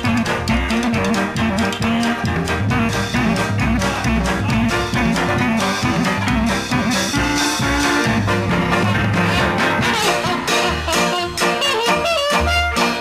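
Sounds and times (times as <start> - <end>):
upbeat swing music with brass: 0.0 - 13.0.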